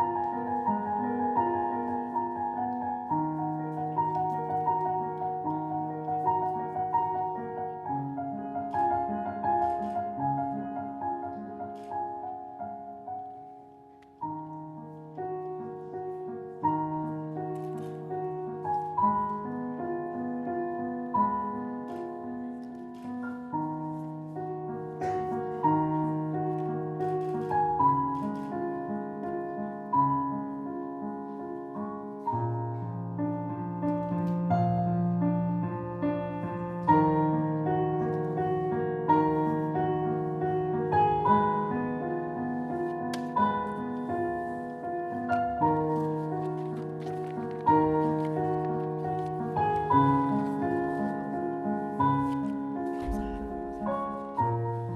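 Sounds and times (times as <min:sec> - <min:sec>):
solo piano: 0:00.0 - 0:54.9.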